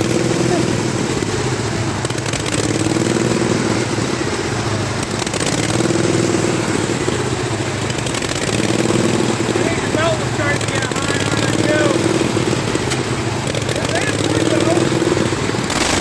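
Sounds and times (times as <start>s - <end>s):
riding lawn mower engine: 0.0s - 16.0s.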